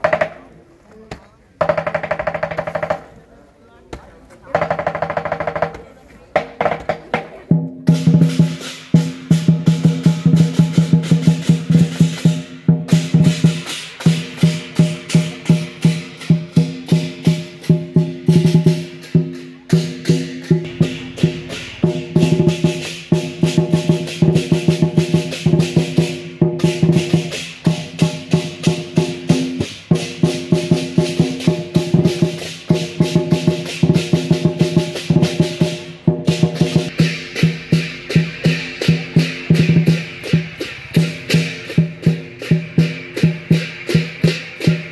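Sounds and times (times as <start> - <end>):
drum beaten fast: 1.6 - 3.1, 4.5 - 44.9
cymbals ringing: 8.0 - 44.9.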